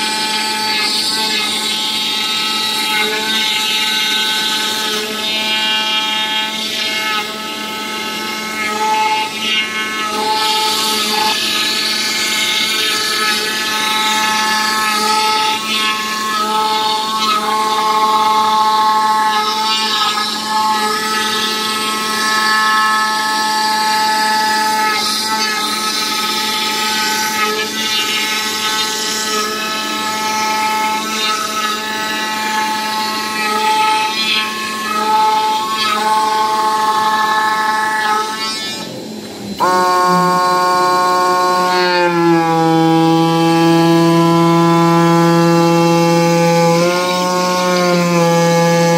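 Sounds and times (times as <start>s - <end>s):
cutting machine whine: 0.0s - 48.9s.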